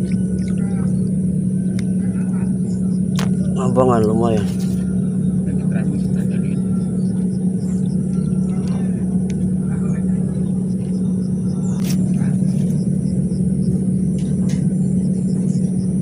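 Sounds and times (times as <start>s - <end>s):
motor running: 0.0s - 16.0s.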